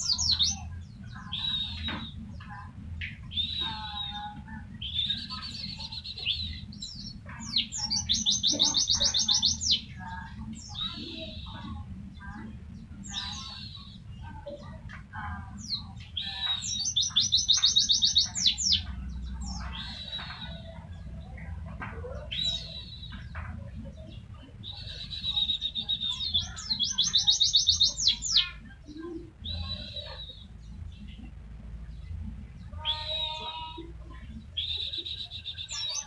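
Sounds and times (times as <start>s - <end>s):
bird singing with rapid trills: 0.0s - 36.0s.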